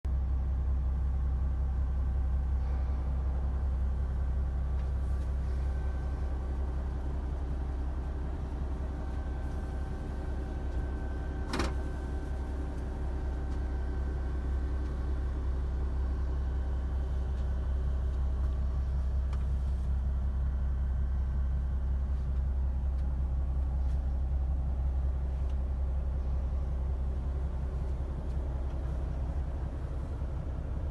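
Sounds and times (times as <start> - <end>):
diesel truck engine idling: 0.1 - 30.9.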